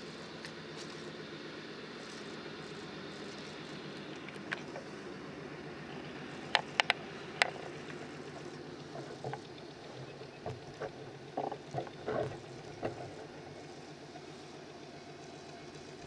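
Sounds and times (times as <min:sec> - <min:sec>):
aircraft engine low rumble: 0:00.0 - 0:16.0.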